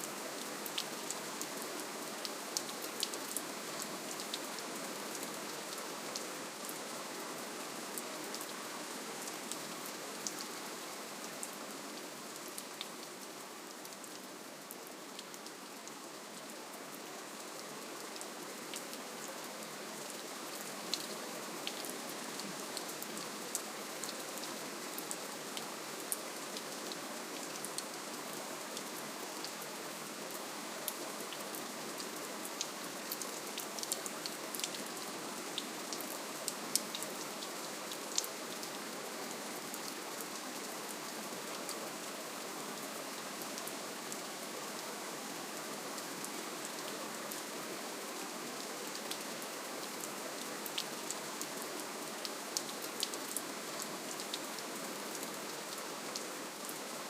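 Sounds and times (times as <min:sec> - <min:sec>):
soft rainfall hiss: 0:00.0 - 0:57.0.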